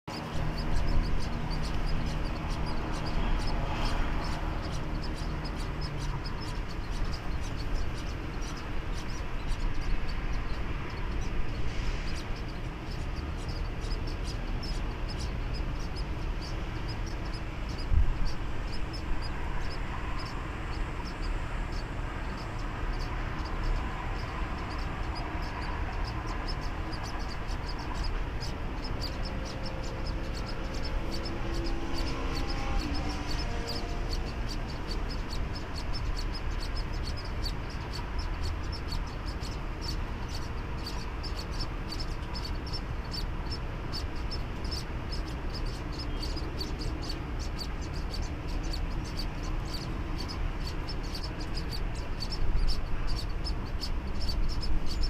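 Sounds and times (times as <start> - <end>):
high regular chirping: 0.1 - 55.0.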